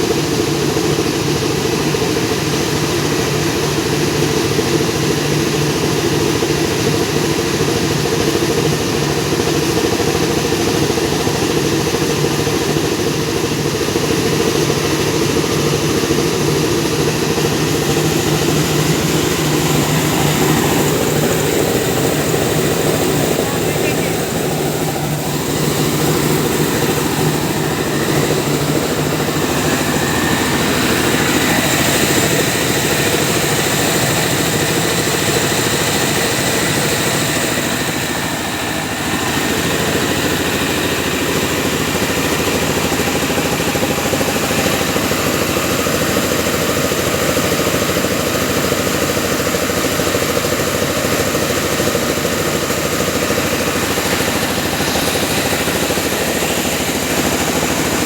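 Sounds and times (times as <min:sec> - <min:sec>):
rice milling machine running: 0:00.0 - 0:58.0.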